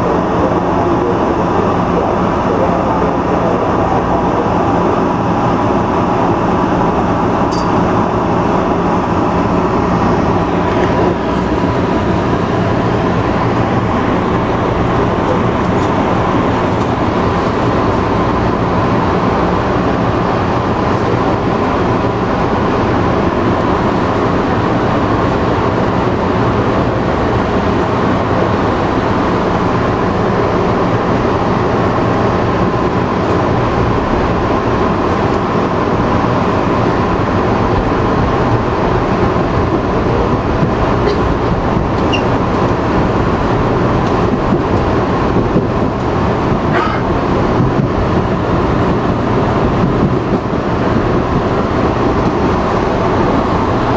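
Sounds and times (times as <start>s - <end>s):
subway train rumble and hum: 0.0s - 53.9s.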